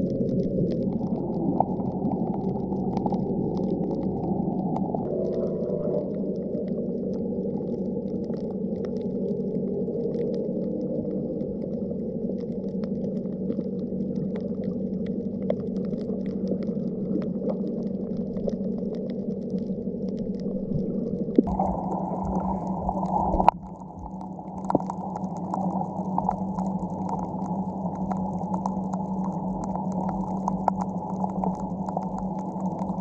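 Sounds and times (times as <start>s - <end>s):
muffled underwater rumble: 0.0s - 33.0s
underwater clicks and crackles: 0.0s - 33.0s.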